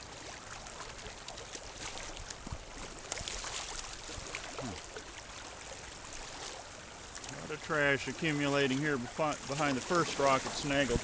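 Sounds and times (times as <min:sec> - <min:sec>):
flowing river water: 0:00.0 - 0:11.0
small water splashes: 0:00.0 - 0:11.0.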